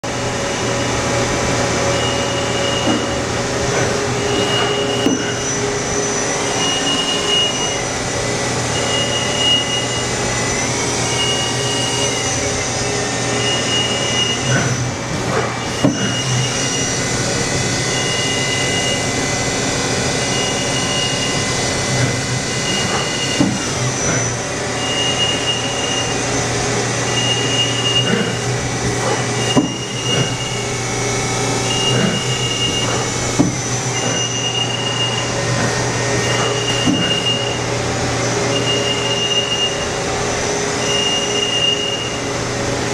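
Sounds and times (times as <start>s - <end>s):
machine hum with whine tones: 0.0s - 42.9s.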